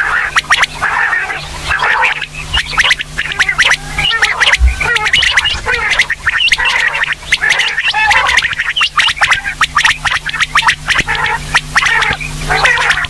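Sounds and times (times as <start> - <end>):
quail chattering calls: 0.0 - 13.0.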